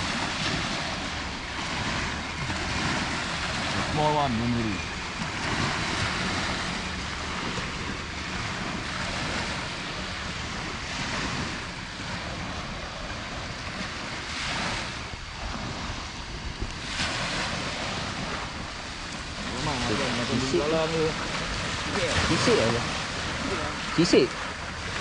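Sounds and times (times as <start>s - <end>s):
surf washing on sandy beach: 0.0s - 25.0s
wind buffeting microphone: 0.0s - 25.0s.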